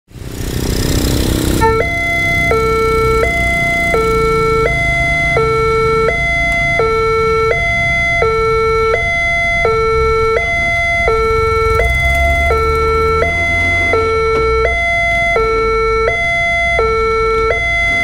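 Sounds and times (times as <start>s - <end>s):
passing motorbikes and cars: 0.1s - 18.0s
level crossing two-tone alarm: 1.6s - 18.0s.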